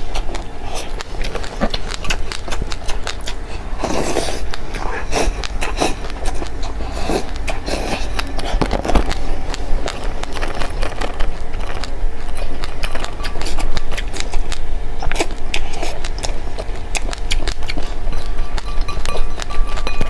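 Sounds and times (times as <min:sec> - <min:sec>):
chewing and crunching seeds: 0:00.0 - 0:20.0
steady low hum: 0:00.0 - 0:20.0.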